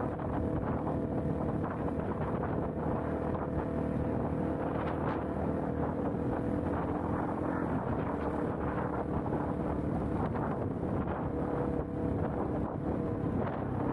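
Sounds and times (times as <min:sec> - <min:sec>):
wind rushing over microphone: 0:00.0 - 0:13.9.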